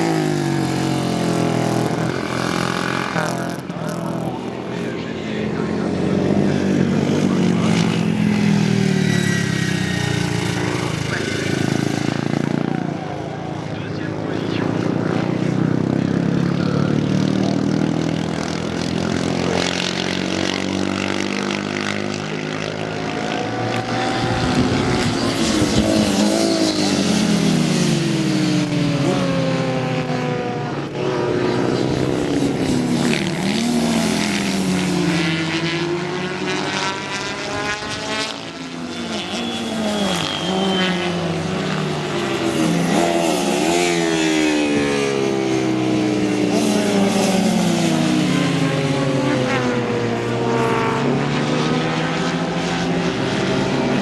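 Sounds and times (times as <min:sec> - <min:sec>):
racing motorcycles passing: 0:00.0 - 0:54.0.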